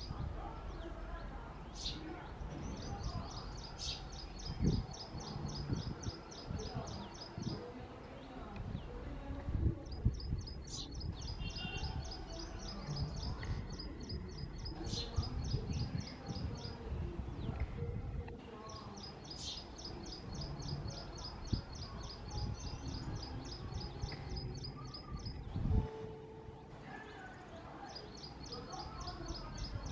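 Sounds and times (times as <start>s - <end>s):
sparrow chirping: 0.0s - 8.8s, 9.8s - 17.6s, 18.6s - 25.8s, 26.6s - 29.9s.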